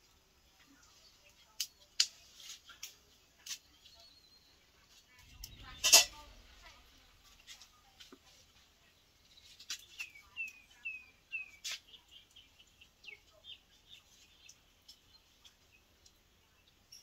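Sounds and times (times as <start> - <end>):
small bird chirping: 0.6 - 17.0.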